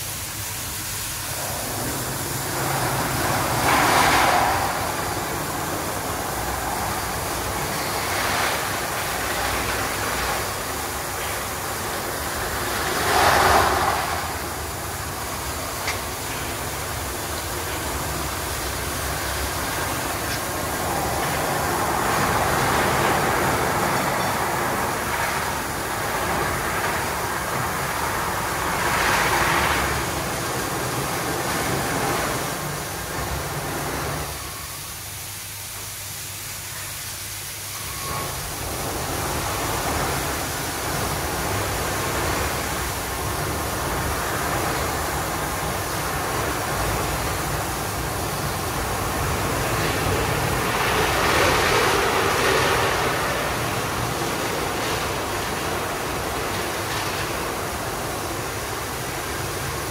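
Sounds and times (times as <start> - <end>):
car wash machine and water rushing: 0.0 - 59.9.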